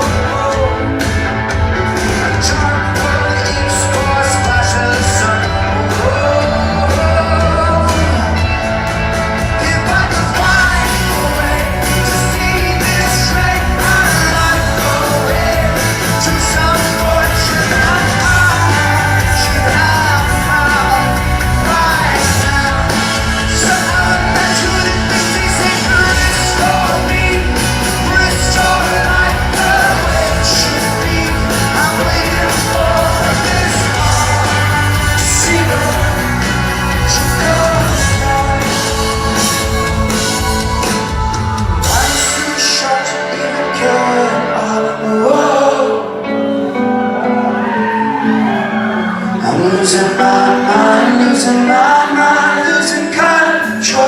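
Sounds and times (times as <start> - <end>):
live rock band: 0.0 - 54.0
person singing: 0.0 - 54.0.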